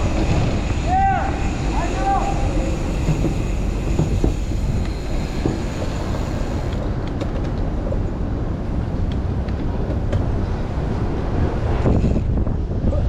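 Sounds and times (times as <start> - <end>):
city traffic: 0.0 - 13.0
wind rushing over microphone: 0.0 - 13.0.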